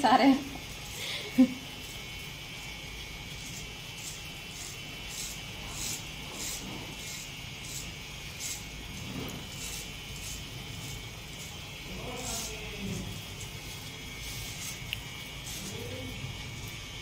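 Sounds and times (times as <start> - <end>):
electric hair clipper cutting hair: 0.2 - 17.0.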